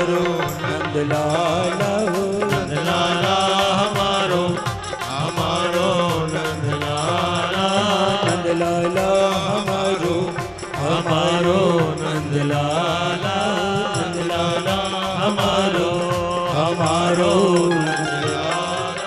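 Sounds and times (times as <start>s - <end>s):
devotional instrumental music: 0.0s - 19.0s
steady percussion beat: 0.0s - 19.0s.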